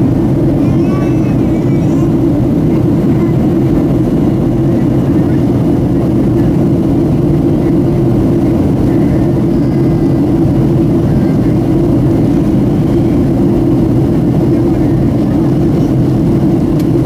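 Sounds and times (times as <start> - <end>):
airplane cabin drone: 0.0 - 17.0.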